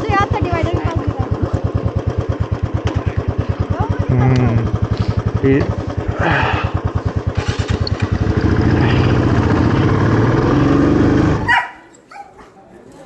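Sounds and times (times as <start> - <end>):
motorcycle engine pulling away: 0.0 - 12.0.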